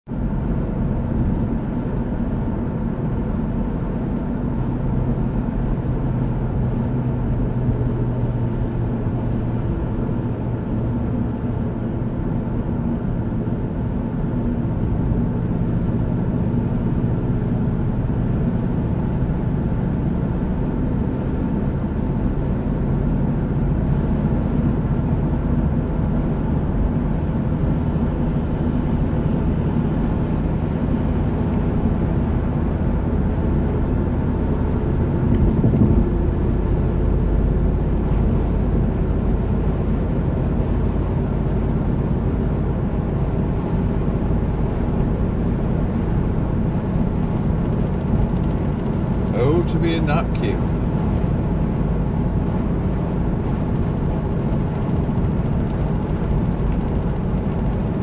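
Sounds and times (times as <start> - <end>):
car engine droning: 0.1 - 58.0
tyres on road: 0.2 - 58.0.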